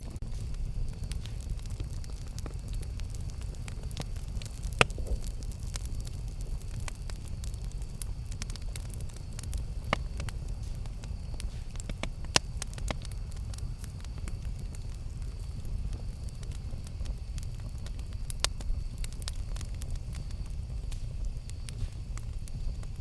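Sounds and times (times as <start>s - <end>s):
campfire burning: 0.0s - 23.0s
wood crackling and popping: 0.0s - 23.0s.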